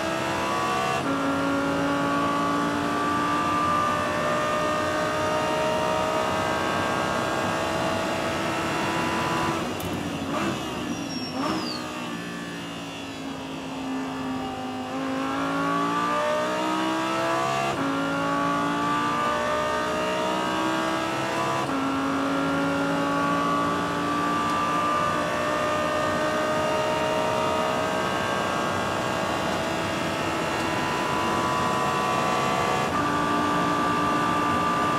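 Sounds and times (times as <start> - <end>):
racing car engine revving: 0.0 - 12.8, 13.6 - 34.9.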